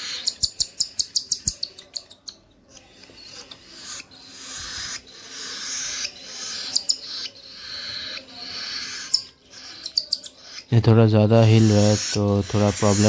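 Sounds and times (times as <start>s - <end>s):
bird chick high chirps: 0.0s - 13.0s.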